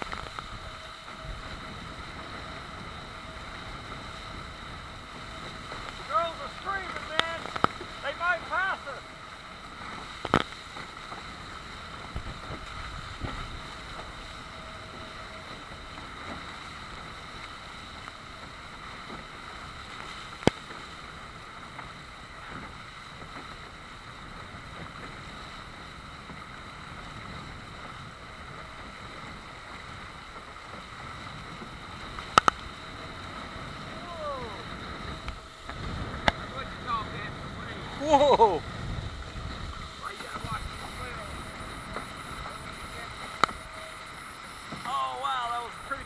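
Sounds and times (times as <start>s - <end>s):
wind noise on microphone: 0.0s - 6.2s, 9.7s - 45.0s
water rushing past hull: 0.0s - 46.0s.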